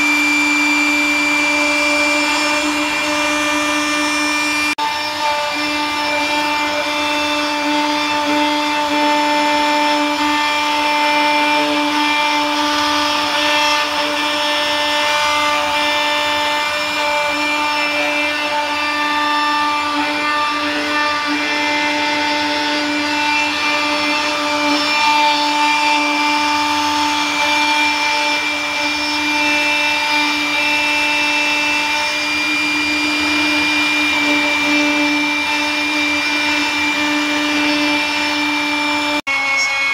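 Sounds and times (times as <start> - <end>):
cutter rasping plastic: 0.0 - 39.9
router spindle whine: 0.0 - 39.9.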